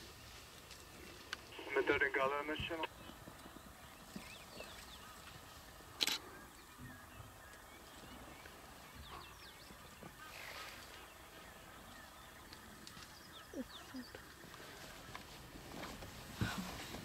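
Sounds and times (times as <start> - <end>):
faint bush ambience: 0.0 - 17.0.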